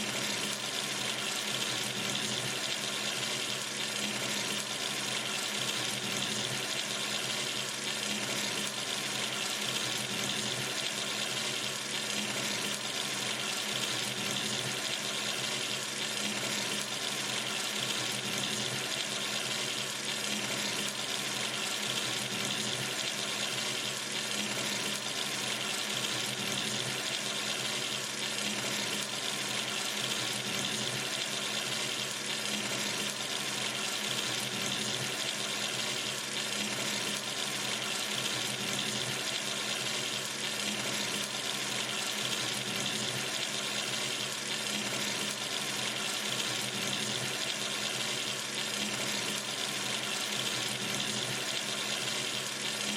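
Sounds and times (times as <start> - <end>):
water running from sink tap: 0.0 - 52.9.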